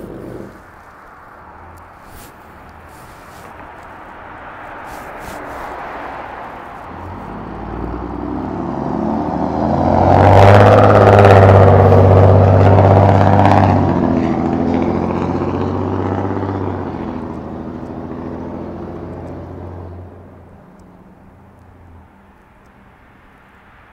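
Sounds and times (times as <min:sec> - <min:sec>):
fire engine passing: 0:00.0 - 0:23.9.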